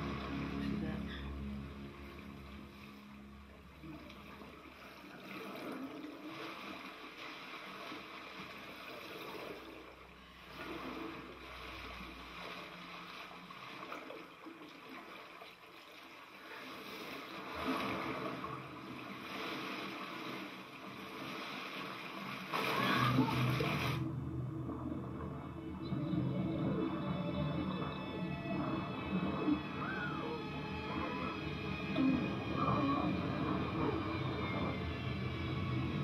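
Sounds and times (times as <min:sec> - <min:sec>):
water splashing from swimming: 0:00.0 - 0:01.2, 0:01.8 - 0:36.0.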